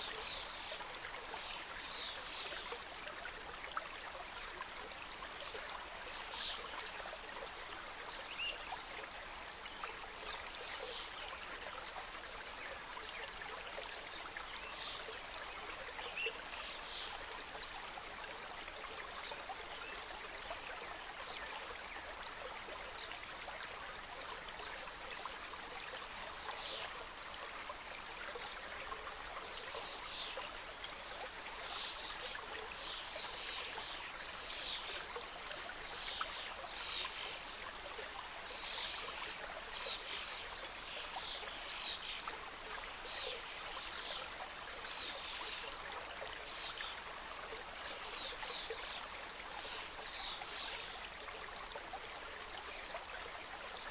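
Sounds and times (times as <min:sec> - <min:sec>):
stream trickling over rocks: 0:00.0 - 0:53.9.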